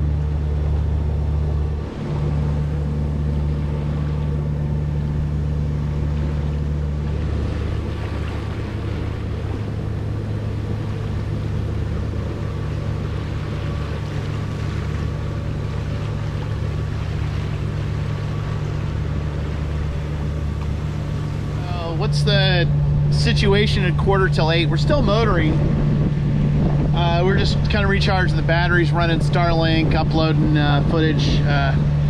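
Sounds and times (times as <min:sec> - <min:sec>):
boat engine humming: 0:00.0 - 0:32.0
water splashing along hull: 0:00.0 - 0:32.0.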